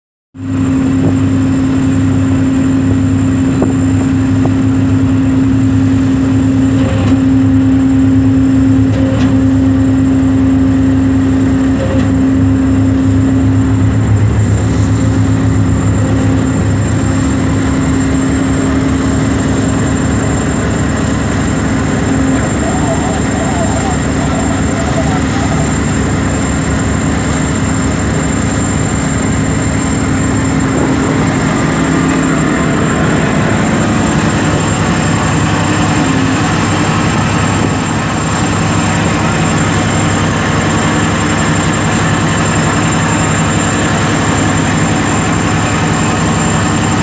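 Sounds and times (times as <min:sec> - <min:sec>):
boat engine humming: 0:00.4 - 0:47.0.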